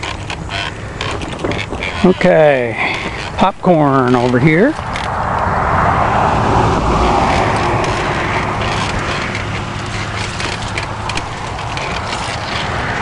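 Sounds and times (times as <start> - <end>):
bicycle clicks and rattles: 0.0 - 13.0
bicycle riding rushing noise: 0.0 - 13.0.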